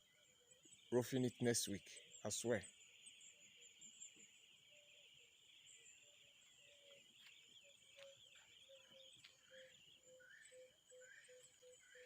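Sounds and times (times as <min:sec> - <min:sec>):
birds chirping softly: 0:00.0 - 0:12.0.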